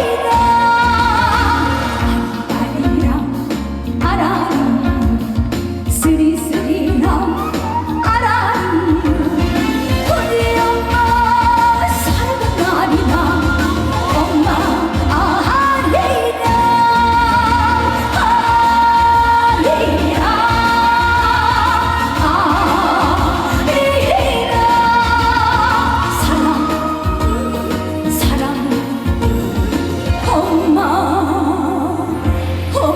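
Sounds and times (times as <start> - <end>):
band accompaniment: 0.0 - 30.8
woman singing with vibrato: 0.0 - 32.9.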